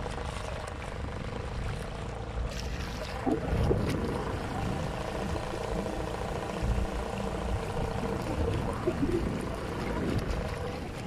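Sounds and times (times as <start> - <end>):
boat engine running: 0.0 - 11.0
choppy water: 0.0 - 11.0
wind rumbling on microphone: 0.0 - 11.0.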